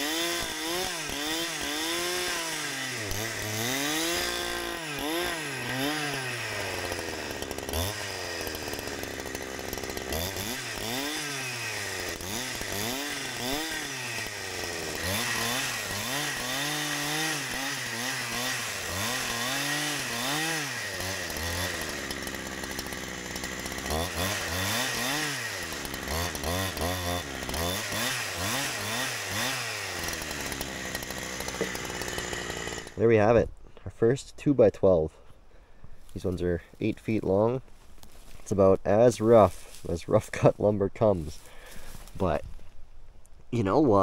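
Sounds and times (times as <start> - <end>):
chainsaw cutting through log: 0.0 - 33.4, 36.0 - 42.5.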